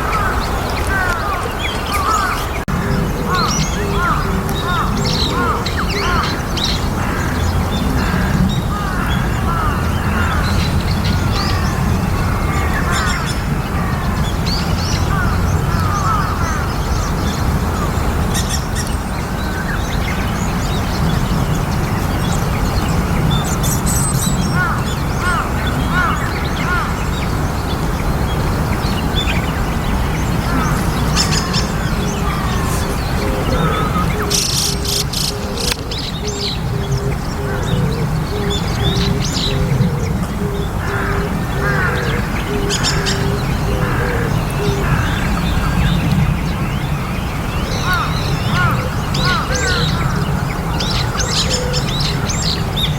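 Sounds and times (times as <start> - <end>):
starlings chirping: 0.0 - 52.9
steady low rumble: 2.6 - 51.2.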